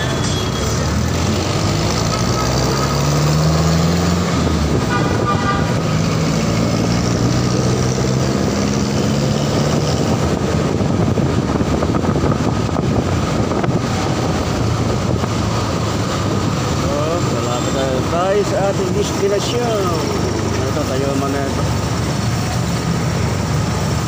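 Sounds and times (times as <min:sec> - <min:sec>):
surrounding traffic engines: 0:00.0 - 0:24.0
wind and road noise: 0:00.0 - 0:24.0.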